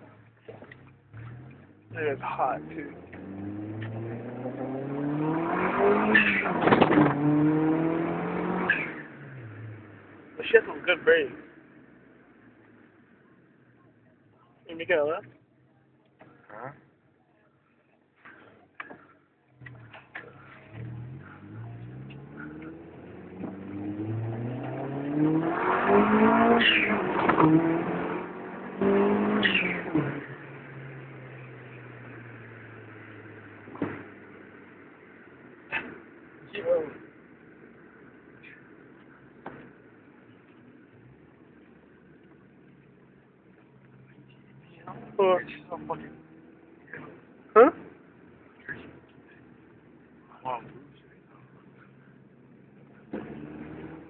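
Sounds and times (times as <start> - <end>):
car engine revving: 0.0 - 13.0, 18.2 - 54.0.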